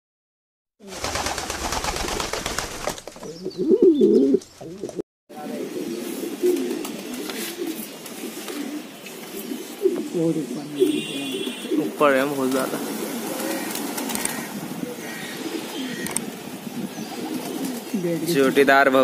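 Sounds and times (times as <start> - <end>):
pigeons cooing: 3.2 - 18.6.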